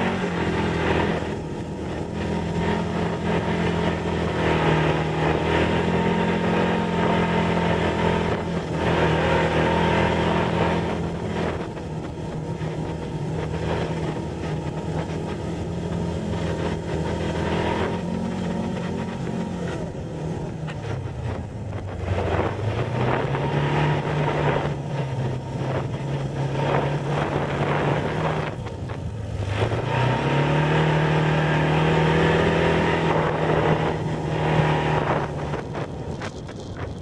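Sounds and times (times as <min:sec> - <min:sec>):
off-road vehicle engine running: 0:00.0 - 0:37.0.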